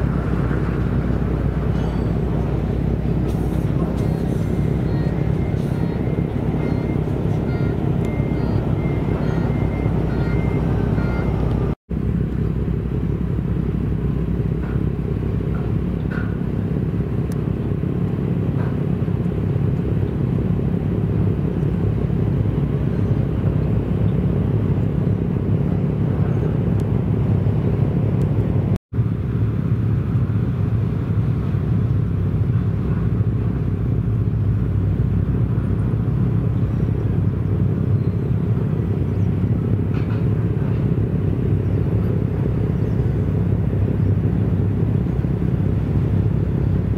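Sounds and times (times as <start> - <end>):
boat engine rumbling: 0.0 - 46.9.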